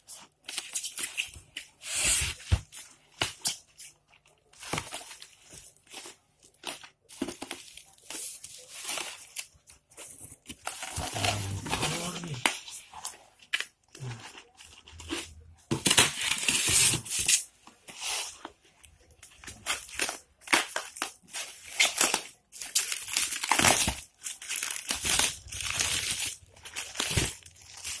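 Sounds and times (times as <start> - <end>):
plastic-wrapped foam crinkling: 0.0 - 28.0.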